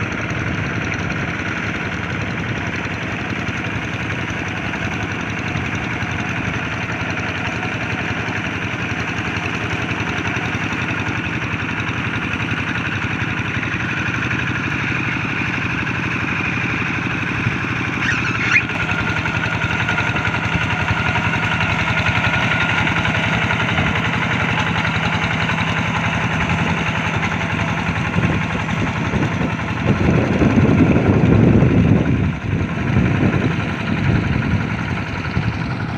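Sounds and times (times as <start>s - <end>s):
diesel tractor engine running: 0.0s - 35.9s.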